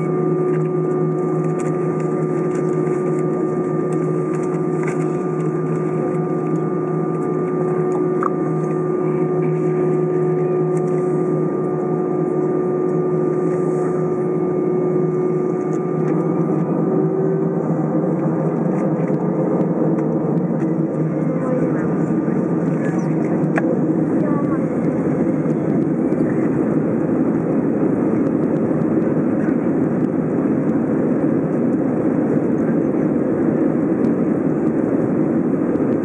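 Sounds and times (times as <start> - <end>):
jet engines idling: 0.0 - 36.0.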